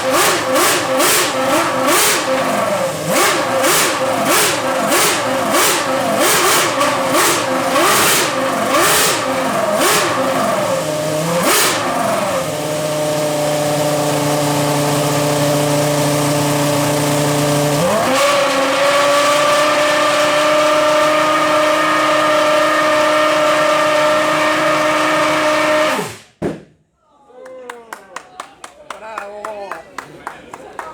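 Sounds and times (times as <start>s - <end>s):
racing car engine revving: 0.0s - 26.3s.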